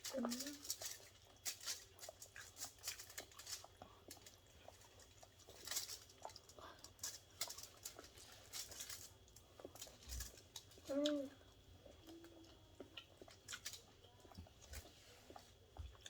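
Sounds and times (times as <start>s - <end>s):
chewing and lip smacking: 0.2s - 16.0s.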